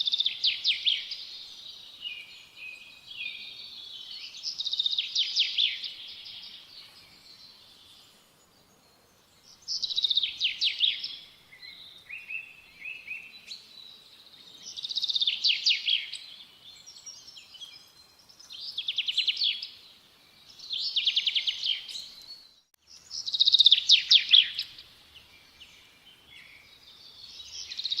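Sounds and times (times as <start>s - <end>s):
soft bird chirps: 0.0s - 28.0s
songbird singing: 0.0s - 28.0s.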